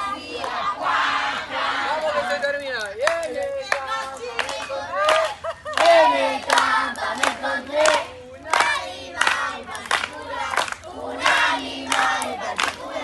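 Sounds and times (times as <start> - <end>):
people clapping: 0.0 - 1.3, 2.2 - 13.0
group singing: 0.0 - 2.6, 3.2 - 13.0.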